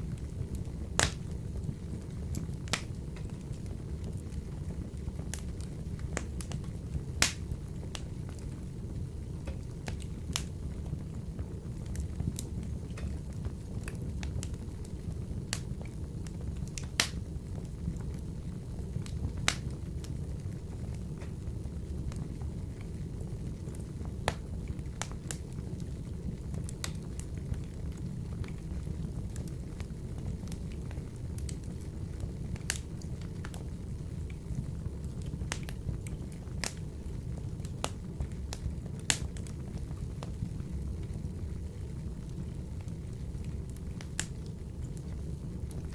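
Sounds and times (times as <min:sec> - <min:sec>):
fire crackling and popping: 0:00.0 - 0:45.9
wood fire rumbling in stove: 0:00.0 - 0:45.9.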